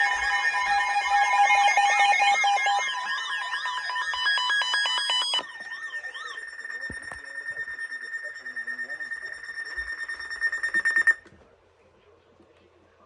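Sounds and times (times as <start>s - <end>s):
steady beeping tones: 0.0s - 11.2s
warbling alarm tones: 0.0s - 11.2s.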